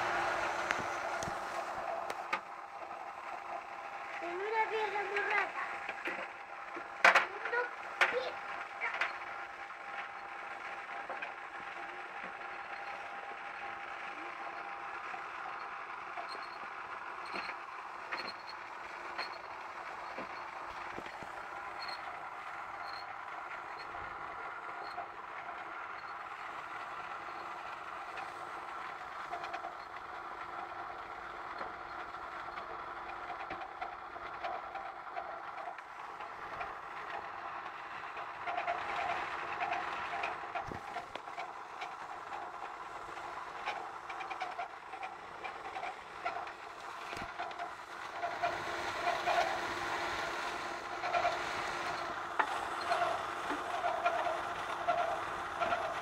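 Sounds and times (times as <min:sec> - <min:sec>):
tumble dryer whining and squealing: 0:00.0 - 0:30.1, 0:34.8 - 0:56.0.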